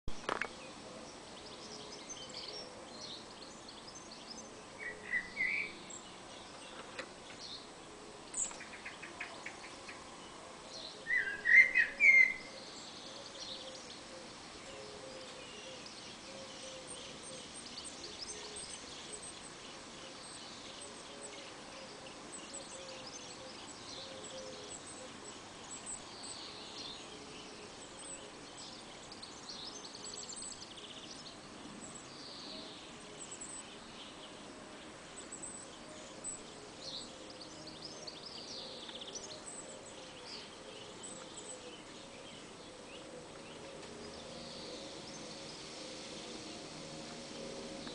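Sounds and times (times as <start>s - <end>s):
blackbird singing: 0.1s - 47.9s.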